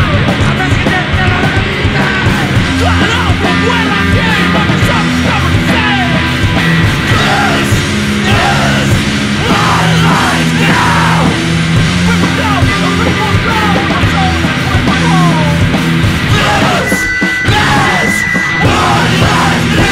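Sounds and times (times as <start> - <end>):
punk rock band playing: 0.0 - 19.9
yelled vocals: 0.0 - 19.9.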